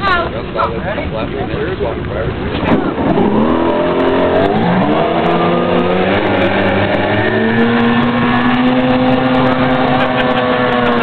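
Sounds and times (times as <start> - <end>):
outboard motor running hard: 0.0 - 11.0.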